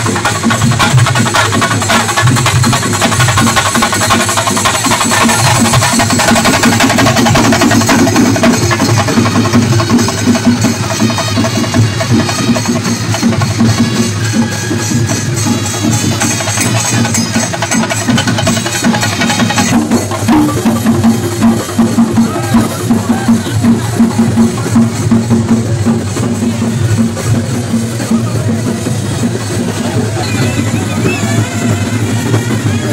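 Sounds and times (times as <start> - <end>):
drum troupe playing fast rhythm: 0.0 - 32.9.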